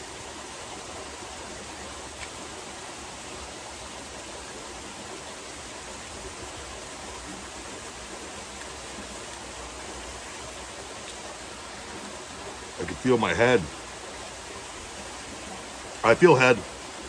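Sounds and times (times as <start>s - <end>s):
waterfall hissing into pool: 0.0s - 17.0s.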